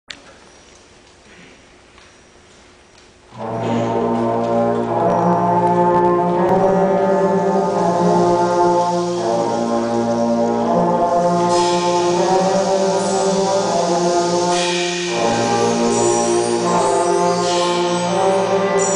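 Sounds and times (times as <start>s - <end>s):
concert band playing chords: 3.3s - 18.9s.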